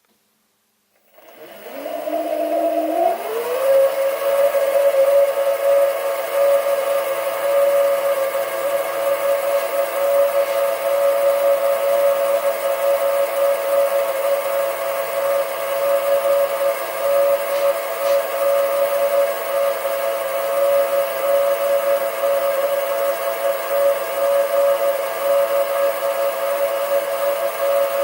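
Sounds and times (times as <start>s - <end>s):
lathe motor whining: 1.0s - 28.0s.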